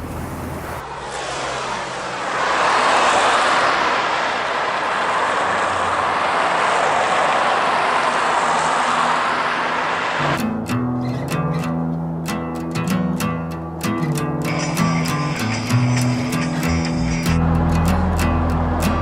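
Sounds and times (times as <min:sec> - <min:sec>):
rushing vehicle noise: 0:00.0 - 0:11.4, 0:13.7 - 0:19.0.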